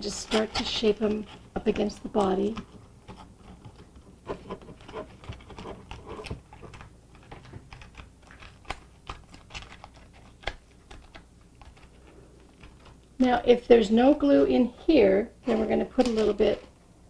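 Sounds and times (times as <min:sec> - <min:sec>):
aluminum foil crinkling: 0:00.0 - 0:14.5, 0:15.4 - 0:16.8.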